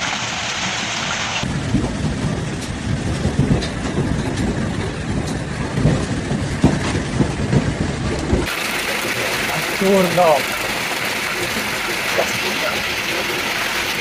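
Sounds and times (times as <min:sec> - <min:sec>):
hail rumble: 0:00.0 - 0:14.0
hailstones striking cars and pavement: 0:01.4 - 0:14.0.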